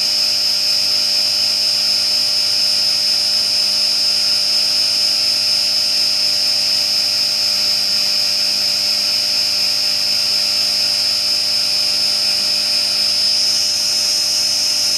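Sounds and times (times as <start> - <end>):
mill spindle whine: 0.0 - 14.9.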